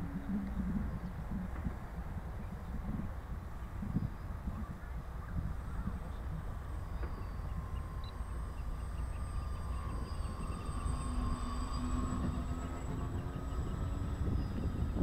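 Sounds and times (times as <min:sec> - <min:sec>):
model plane motors droning: 0:00.0 - 0:15.0
wind rumbling on microphone: 0:00.0 - 0:15.0.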